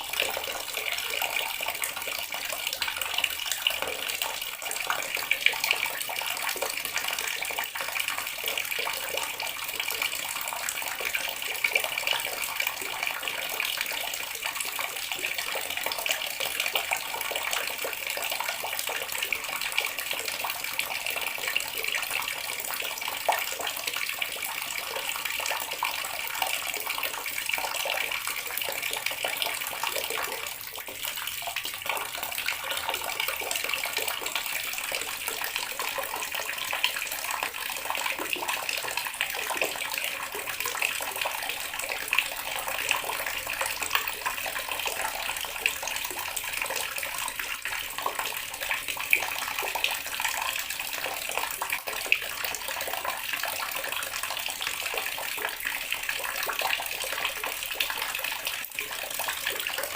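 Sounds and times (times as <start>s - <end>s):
tap water running and splashing: 0.0s - 59.9s.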